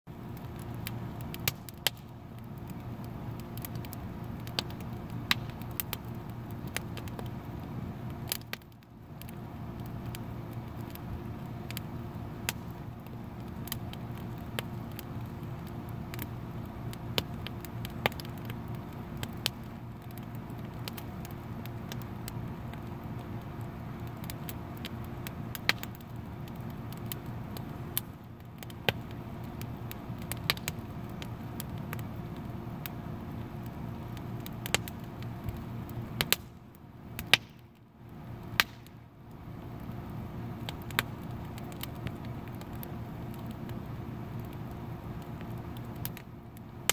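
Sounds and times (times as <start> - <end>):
steady low hum: 0.1 - 46.9
wood fire crackling: 0.1 - 46.9.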